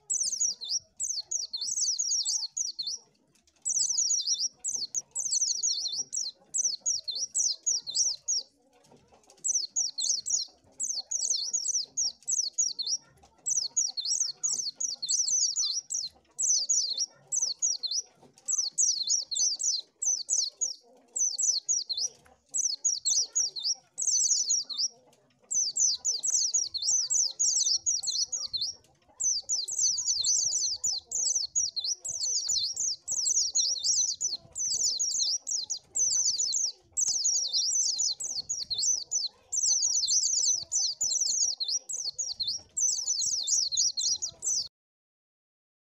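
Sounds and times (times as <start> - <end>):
small bird twittering: 0.0 - 8.6, 9.2 - 44.7.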